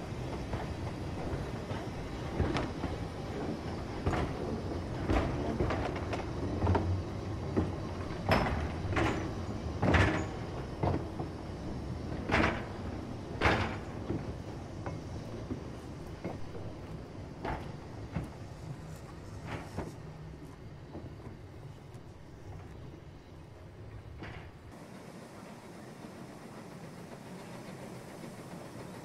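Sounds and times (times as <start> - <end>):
low train rumble: 0.0 - 29.0
train wheels and couplings clanking: 0.0 - 29.0.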